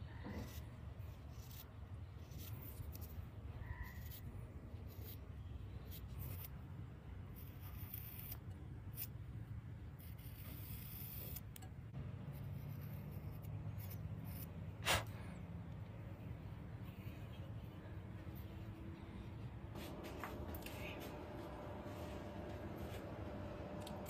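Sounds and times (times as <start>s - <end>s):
carving tool scraping clay: 0.0s - 21.9s.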